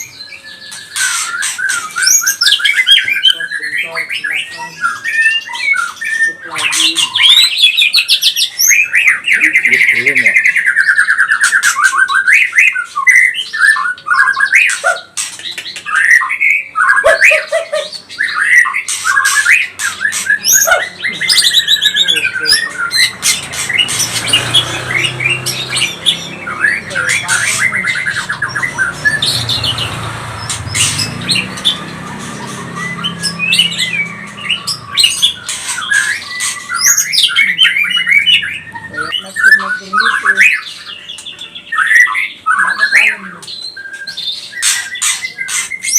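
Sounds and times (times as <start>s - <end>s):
bird singing whistles and trills: 0.0s - 45.9s.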